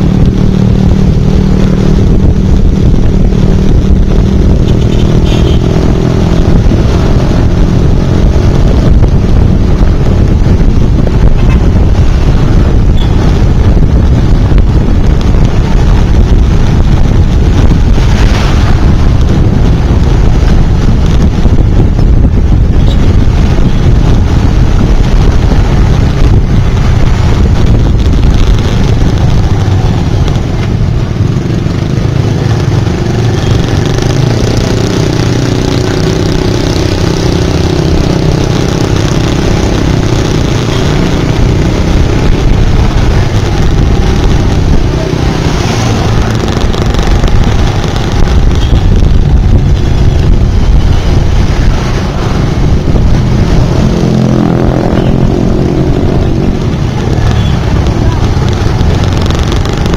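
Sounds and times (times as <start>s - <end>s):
motorbike engine running: 0.0s - 59.9s
steady low rumble: 0.0s - 59.9s
traffic engines: 0.0s - 59.9s.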